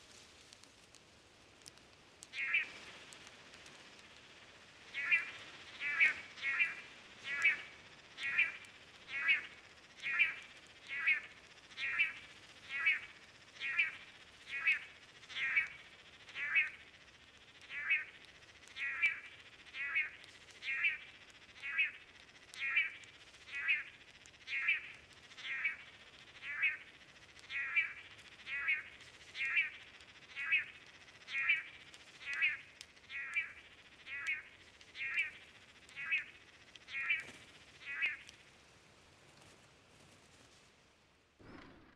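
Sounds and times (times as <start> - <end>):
faint steady hiss: 0.0 - 41.9
animal rattling call: 4.8 - 38.5.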